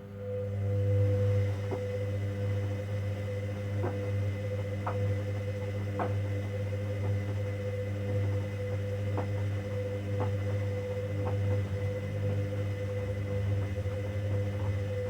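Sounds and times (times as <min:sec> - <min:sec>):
washing machine hum and whine: 0:00.0 - 0:15.0.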